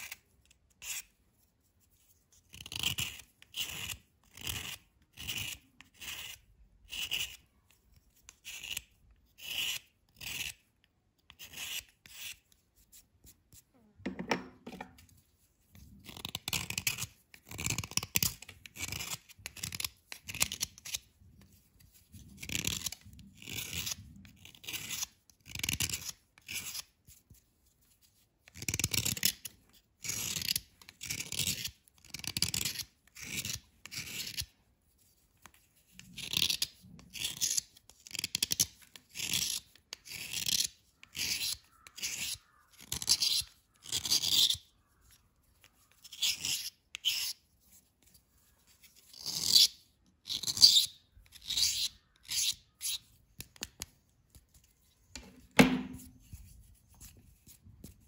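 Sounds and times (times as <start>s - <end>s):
knife scraping powdery bar: 0.0s - 13.7s, 14.8s - 58.0s.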